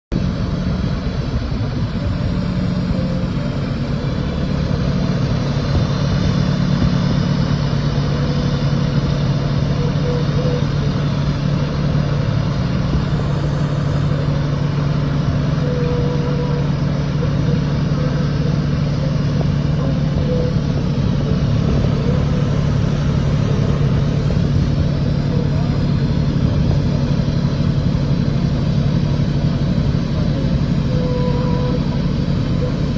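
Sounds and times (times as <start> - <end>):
low machine drone: 0.1 - 32.9.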